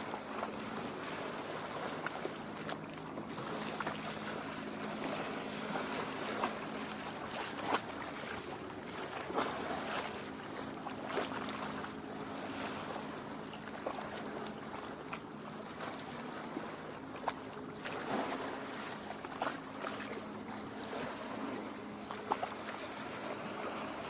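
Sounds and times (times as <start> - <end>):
waves lapping on rocky shore: 0.0 - 24.0.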